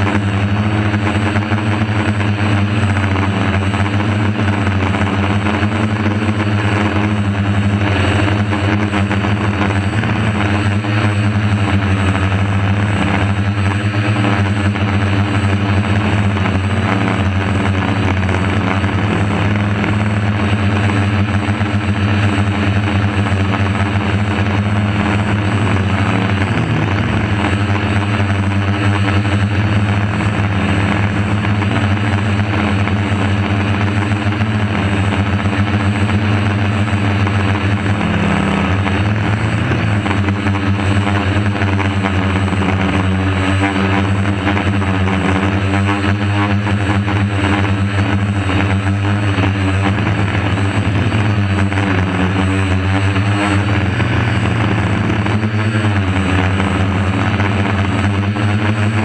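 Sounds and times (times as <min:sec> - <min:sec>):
drone motors buzzing: 0:00.0 - 0:59.0.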